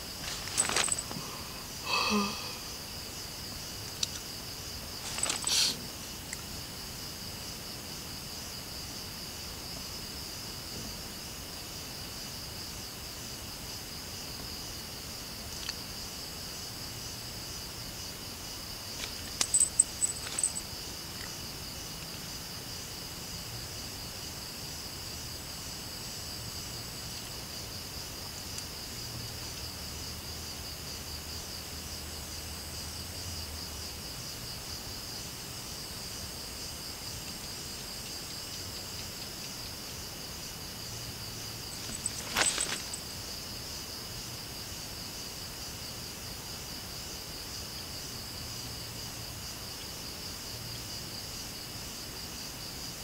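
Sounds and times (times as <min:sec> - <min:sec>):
crickets and insects trilling: 0:00.0 - 0:53.0.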